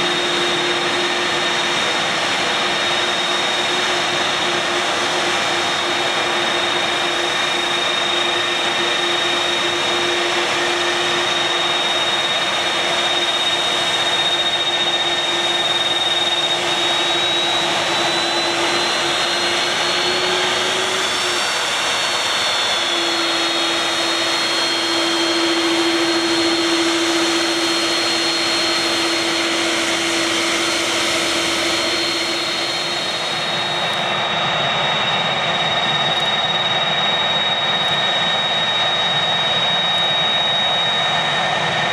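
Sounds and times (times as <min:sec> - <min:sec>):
jet engines taxiing: 0:00.0 - 0:41.9.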